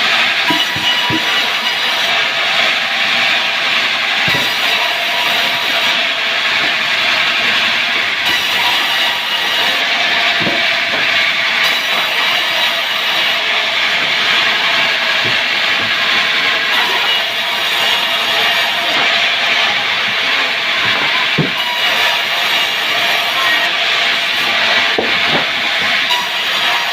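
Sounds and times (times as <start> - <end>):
wood-cutting saw running: 0.0 - 26.9.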